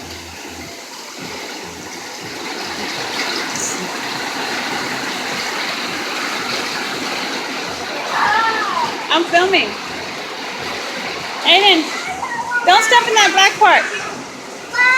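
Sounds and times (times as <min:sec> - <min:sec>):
rain and running rainwater: 0:00.0 - 0:14.9.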